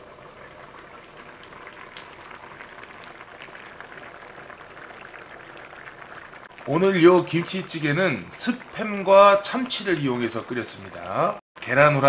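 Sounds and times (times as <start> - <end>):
stew boiling with bubbles popping: 0.0 - 11.4.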